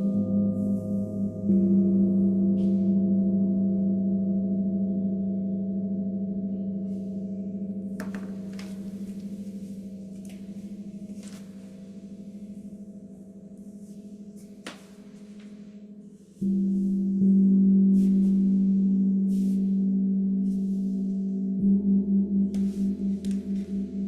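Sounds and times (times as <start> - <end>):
deep ringing meditation bowl: 0.0 - 24.0.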